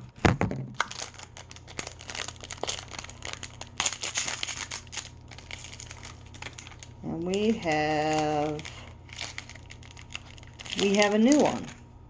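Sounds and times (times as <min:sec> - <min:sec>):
packaging crinkling and tearing: 0:00.7 - 0:11.8.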